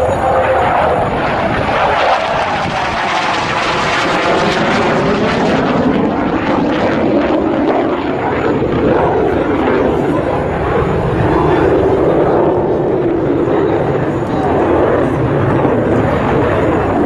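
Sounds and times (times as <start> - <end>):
jet fighter roar: 0.0 - 17.0.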